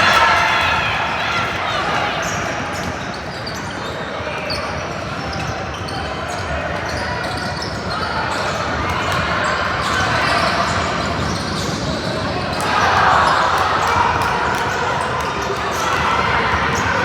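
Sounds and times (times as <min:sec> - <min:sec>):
sneakers squeaking: 0:00.0 - 0:17.0.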